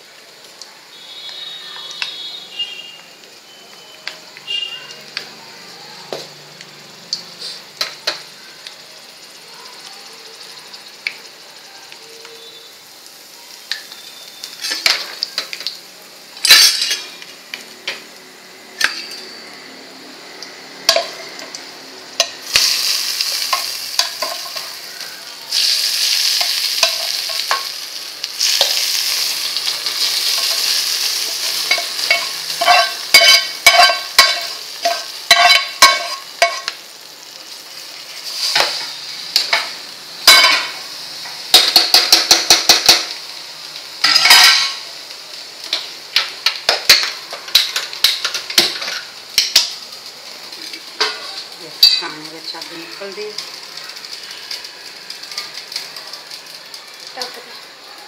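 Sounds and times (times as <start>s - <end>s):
oil and seeds sizzling in pan: 0.0s - 58.0s.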